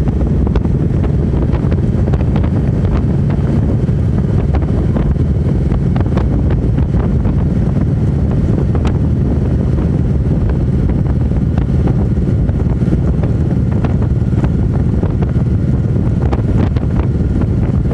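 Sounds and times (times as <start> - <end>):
motorcycle engine running: 0.0 - 17.9
wind buffeting microphone: 0.0 - 17.9.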